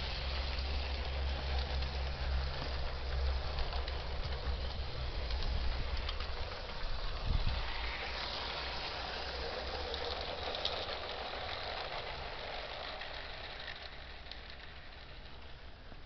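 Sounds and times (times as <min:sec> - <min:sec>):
light clicks of train: 0:00.0 - 0:16.0
model train wheels whirring: 0:00.0 - 0:16.0.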